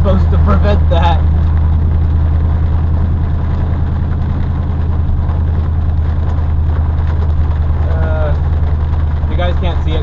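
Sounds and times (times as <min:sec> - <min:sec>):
truck engine low hum: 0:00.0 - 0:10.0.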